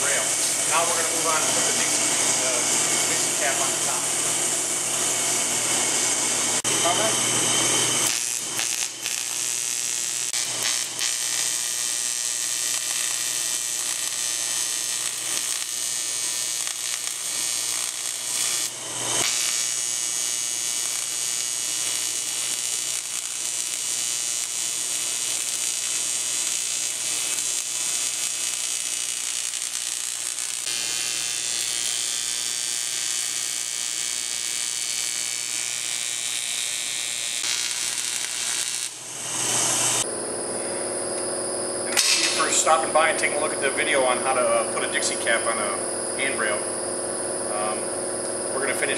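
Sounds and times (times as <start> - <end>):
welding arc buzzing: 0.0 - 48.9.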